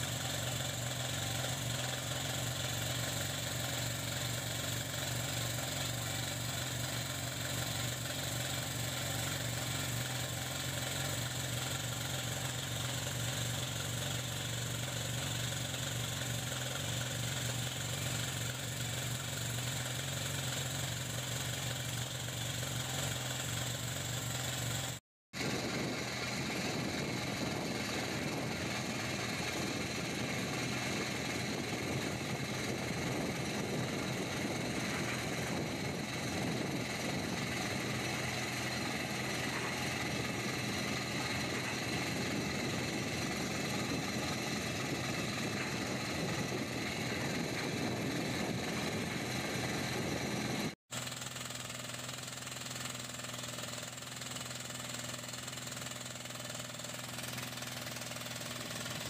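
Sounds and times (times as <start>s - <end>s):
engine drone: 0.0s - 59.0s
rock drill pounding: 0.0s - 59.0s.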